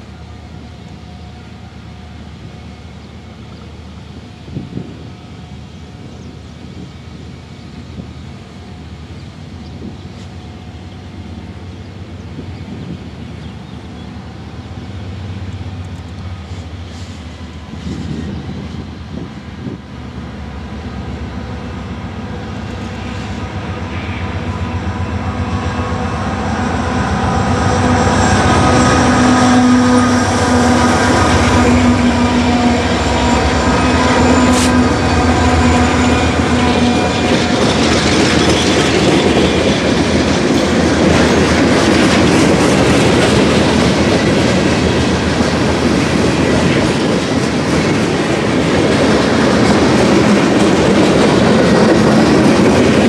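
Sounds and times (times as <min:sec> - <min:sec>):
diesel locomotives passing: 0:00.0 - 0:53.0.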